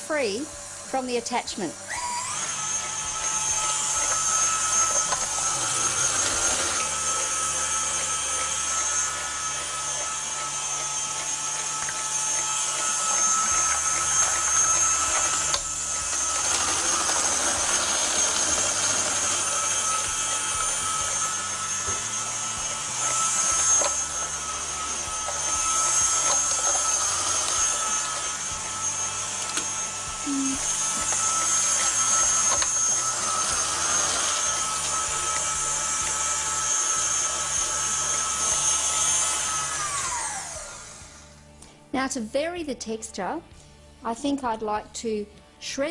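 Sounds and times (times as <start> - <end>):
stand mixer motor whine: 1.8 - 41.5
cabbage being shredded: 2.0 - 40.1.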